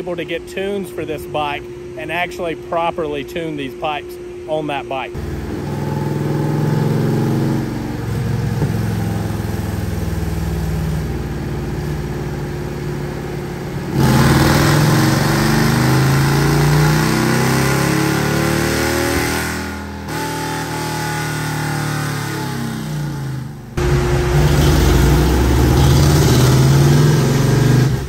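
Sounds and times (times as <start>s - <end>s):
motorcycle engine revving on dyno: 5.2s - 28.0s.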